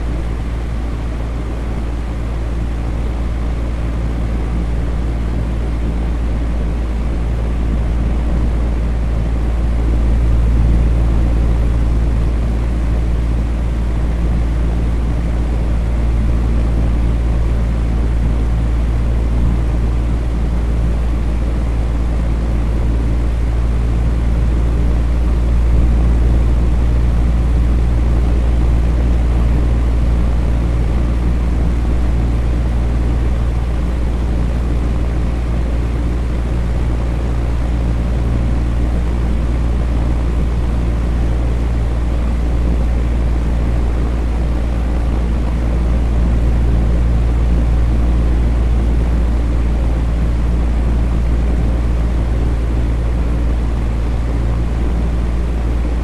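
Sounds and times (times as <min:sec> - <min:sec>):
electric fan whooshing: 0:00.0 - 0:56.0.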